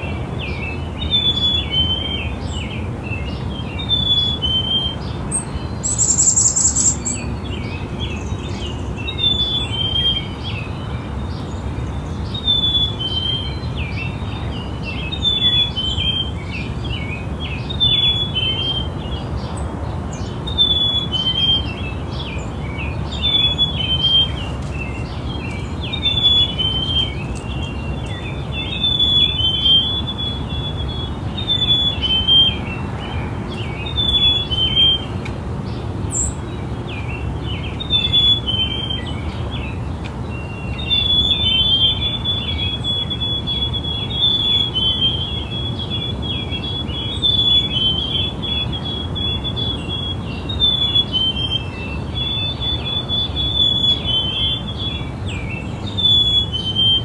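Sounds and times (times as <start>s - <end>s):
bird chirps: 0.0s - 57.0s.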